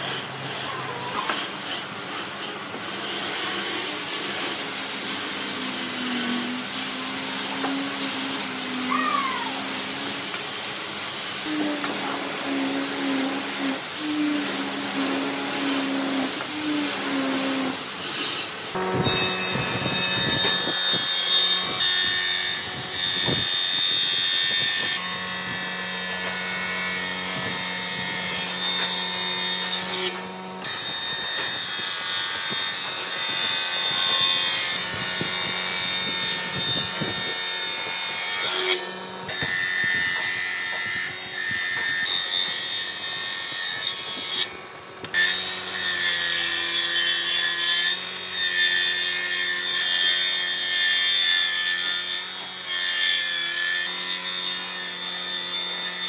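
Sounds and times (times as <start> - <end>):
power tool cutting hardwood: 0.0 - 56.0.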